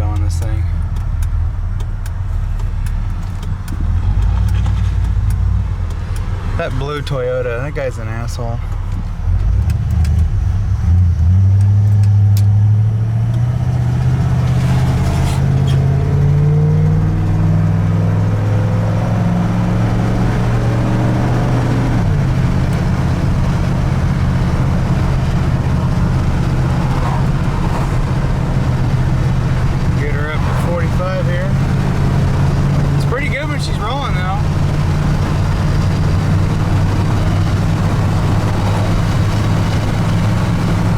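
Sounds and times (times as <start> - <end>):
truck engine revving: 0.0 - 40.9.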